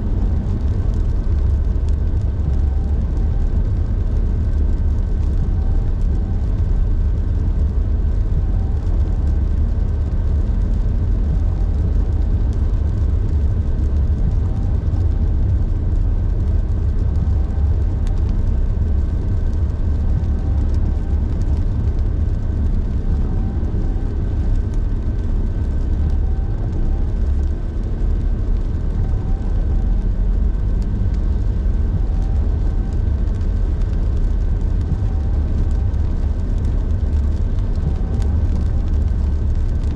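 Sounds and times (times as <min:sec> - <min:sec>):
car road and engine rumble: 0:00.0 - 0:39.9
faint steady whine: 0:00.0 - 0:39.9.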